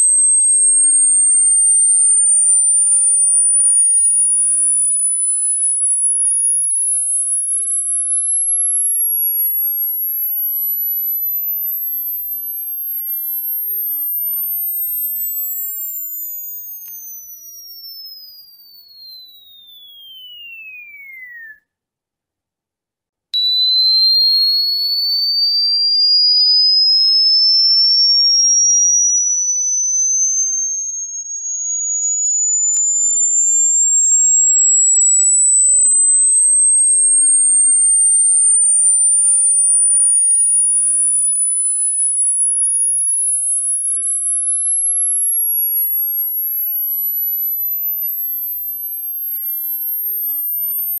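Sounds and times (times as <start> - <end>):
rising electronic sine tone: 0.0 - 21.6, 23.4 - 51.0.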